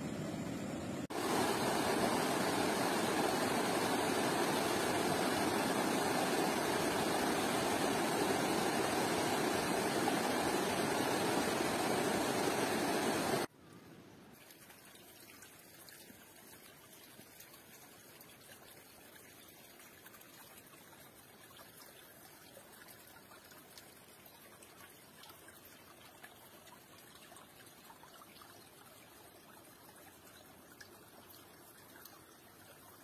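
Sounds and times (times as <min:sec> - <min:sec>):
faint outdoor background hiss: 0:00.0 - 0:33.0.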